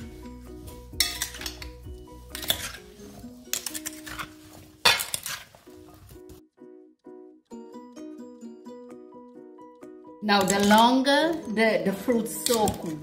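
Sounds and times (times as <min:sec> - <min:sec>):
background music plucked melody: 0:00.0 - 0:13.0.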